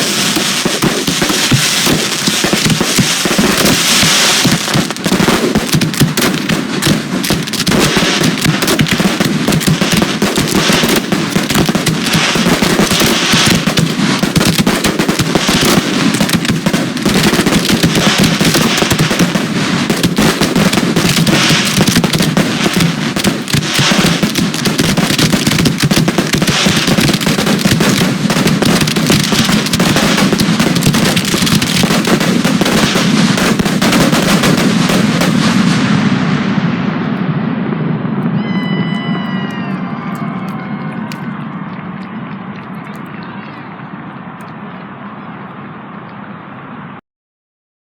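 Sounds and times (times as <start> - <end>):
fireworks barrage: 0.0 - 44.9.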